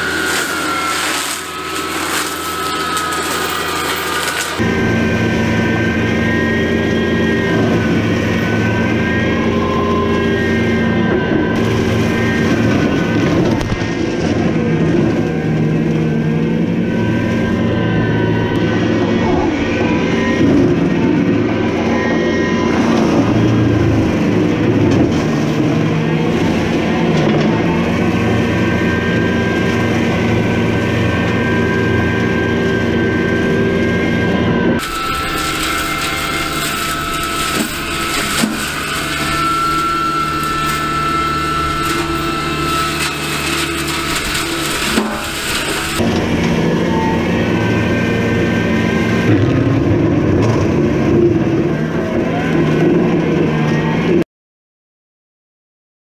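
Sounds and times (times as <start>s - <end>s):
brush mulcher mechanical drone: 0.0s - 54.2s.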